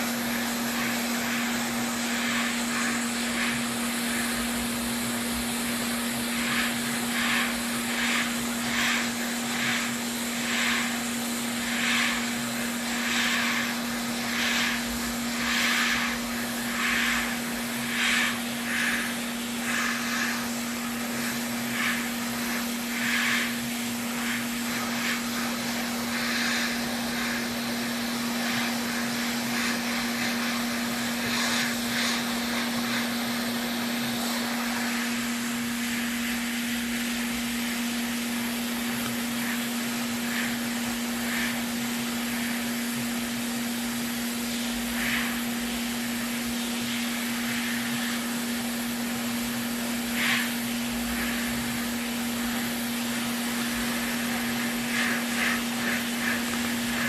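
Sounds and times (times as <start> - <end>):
hot air station blowing: 0.0 - 57.0.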